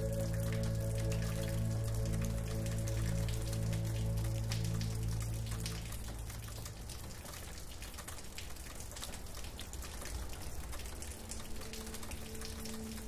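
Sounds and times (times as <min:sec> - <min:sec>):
soft low music tone: 0:00.0 - 0:07.9, 0:09.8 - 0:13.0
steady rain falling: 0:00.0 - 0:13.0.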